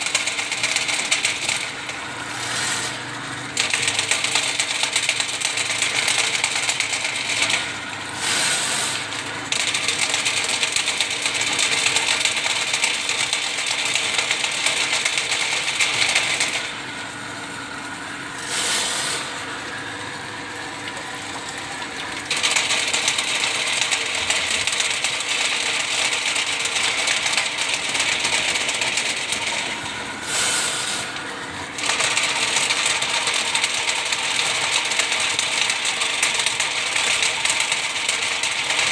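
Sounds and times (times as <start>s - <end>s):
drain cable rattling metallically: 0.0s - 38.9s.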